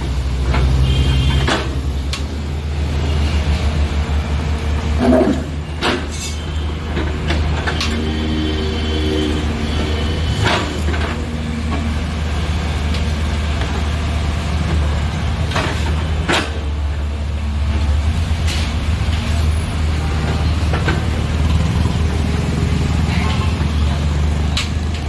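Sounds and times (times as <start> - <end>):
diesel excavator engine droning: 0.0 - 25.0.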